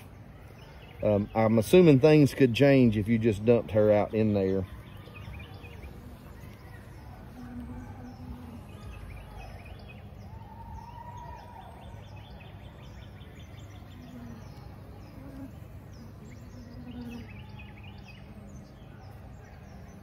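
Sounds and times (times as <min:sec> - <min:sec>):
honeybees buzzing: 0:00.0 - 0:10.8, 0:11.7 - 0:20.0
single bees droning close: 0:00.0 - 0:10.9, 0:11.6 - 0:20.0.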